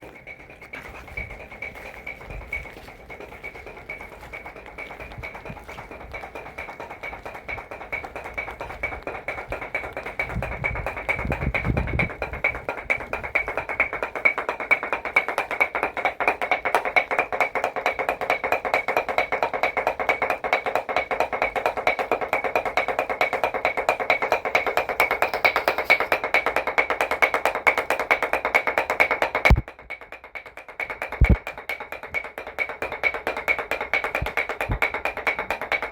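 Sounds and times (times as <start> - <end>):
wooden paddles beating cloth: 0.0 - 35.9.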